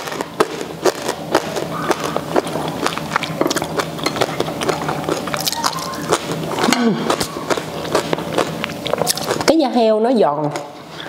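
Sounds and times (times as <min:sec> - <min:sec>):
chewing crispy crackling: 0:00.0 - 0:09.6.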